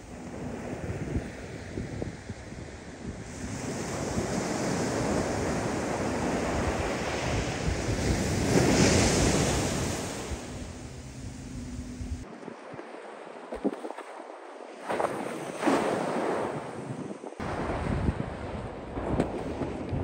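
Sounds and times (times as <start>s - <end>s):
ocean waves breaking: 0.0s - 20.0s
wind rumbling on microphone: 0.0s - 20.0s.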